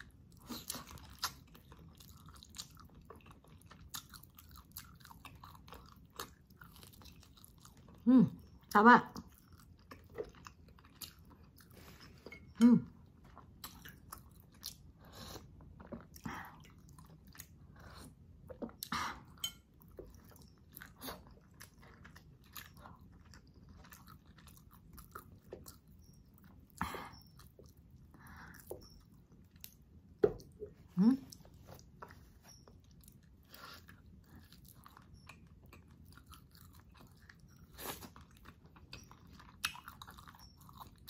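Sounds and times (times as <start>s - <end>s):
chewing with wet smacking: 0.0s - 30.7s, 31.3s - 41.0s.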